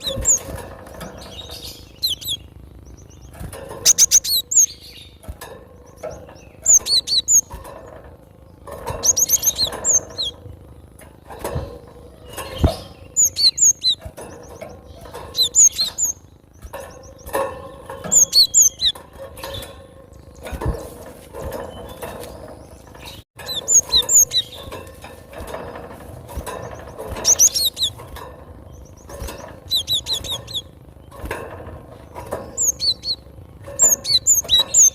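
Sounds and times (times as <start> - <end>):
bird chirping: 0.0 - 7.6, 8.4 - 20.8, 21.4 - 25.5, 26.4 - 34.9.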